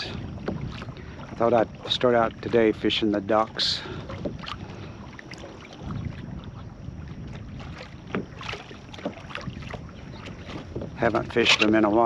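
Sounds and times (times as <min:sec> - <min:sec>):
small waves around kayak: 0:00.0 - 0:12.0
wind buffeting microphone: 0:00.0 - 0:12.0.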